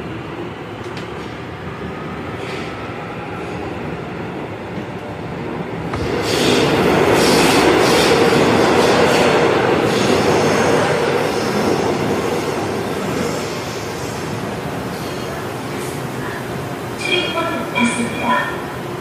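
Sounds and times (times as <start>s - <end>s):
metro train running noise: 0.0s - 19.0s.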